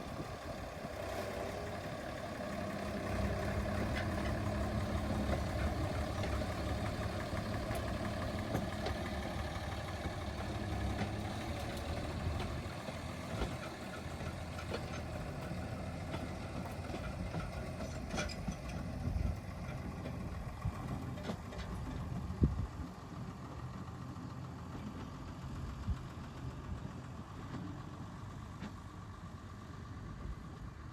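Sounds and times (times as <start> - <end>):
diesel locomotive engine idling: 0.0 - 30.9.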